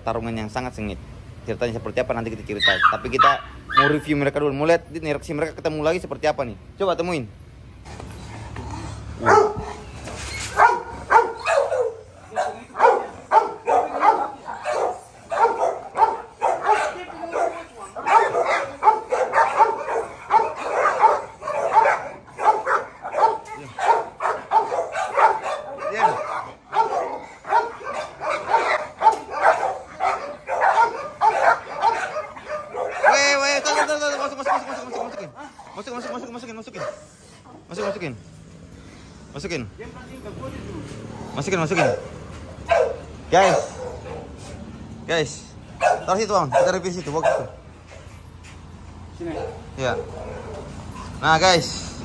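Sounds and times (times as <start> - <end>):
dogs barking hard: 2.5 - 4.2, 8.0 - 38.2, 40.9 - 44.9, 45.6 - 52.0.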